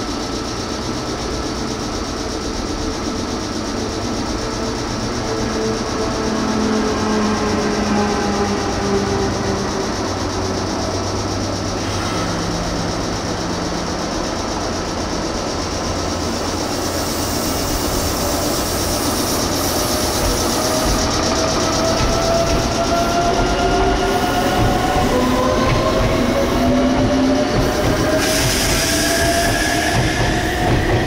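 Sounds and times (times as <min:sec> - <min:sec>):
electric train motors whining: 0:00.0 - 0:31.0.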